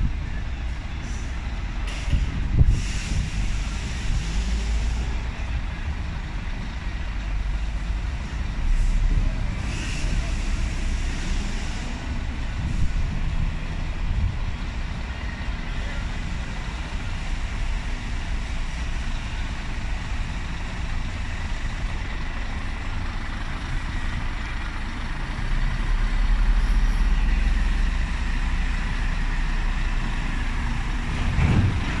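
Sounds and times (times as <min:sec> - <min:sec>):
diesel truck engine rumble: 0:00.0 - 0:32.0.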